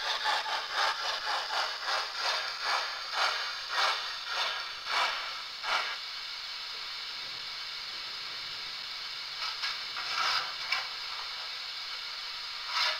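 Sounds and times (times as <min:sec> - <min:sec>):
steam hiss: 0:00.0 - 0:12.9
steam locomotive exhaust chuff: 0:00.0 - 0:12.9.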